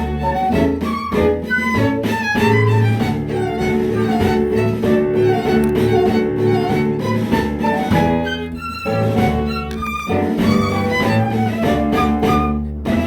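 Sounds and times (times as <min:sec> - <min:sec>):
instrumental ensemble piece: 0:00.0 - 0:13.0.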